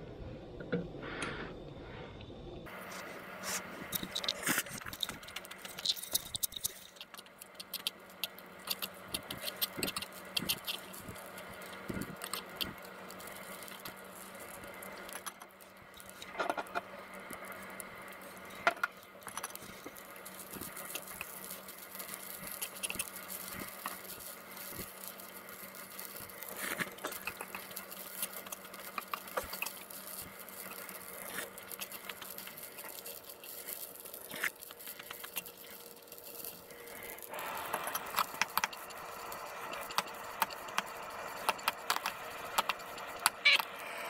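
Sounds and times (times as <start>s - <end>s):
frying hiss: 2.6s - 44.0s.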